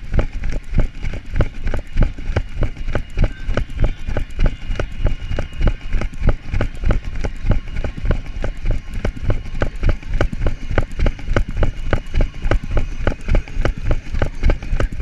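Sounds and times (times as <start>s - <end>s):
running footsteps on asphalt: 0.0s - 15.0s.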